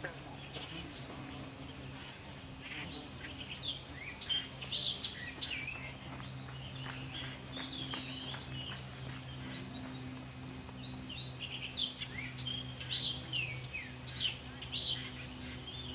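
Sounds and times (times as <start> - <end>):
songbirds chirping: 0.0 - 15.9
steady low hum: 0.0 - 15.9.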